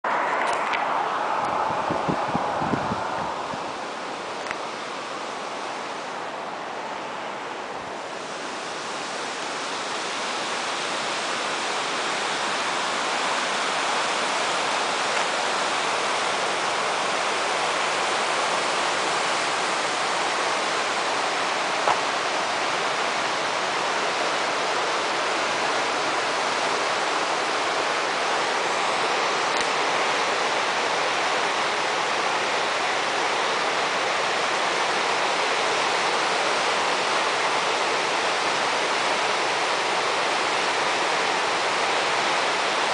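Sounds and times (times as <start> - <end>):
whitewater rushing over rocks: 0.1 - 42.9.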